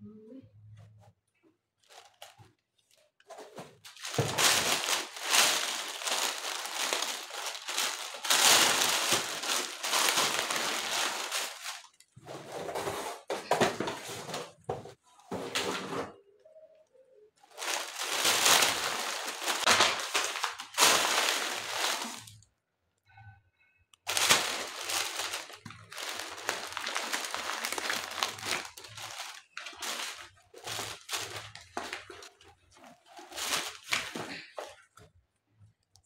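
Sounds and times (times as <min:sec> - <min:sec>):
packaging rustling and crinkling: 0:01.8 - 0:16.2, 0:17.5 - 0:22.5, 0:24.1 - 0:35.1.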